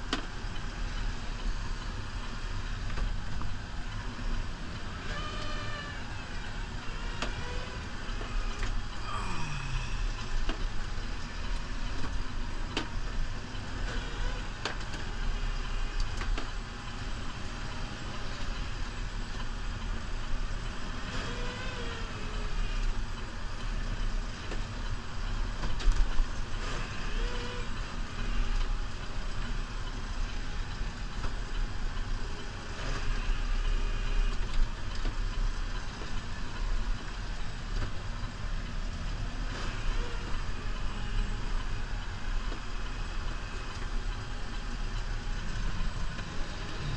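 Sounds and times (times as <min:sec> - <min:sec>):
tractor diesel engine running: 0:00.0 - 0:21.0, 0:22.1 - 0:46.9.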